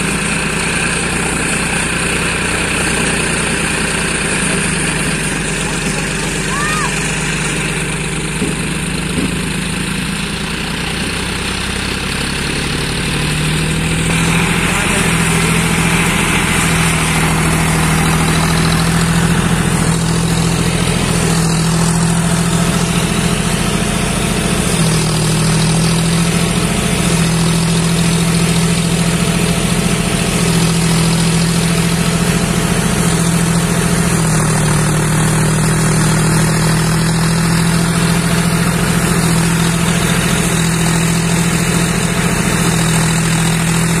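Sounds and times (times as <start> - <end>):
thresher rushing noise: 0.0 - 11.3, 12.1 - 44.0
tractor diesel engine running: 0.0 - 44.0.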